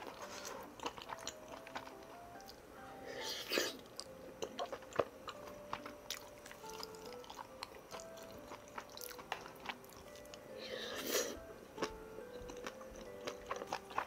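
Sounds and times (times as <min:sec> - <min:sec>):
person chewing food: 0:00.0 - 0:14.0
soft background music: 0:00.0 - 0:14.0.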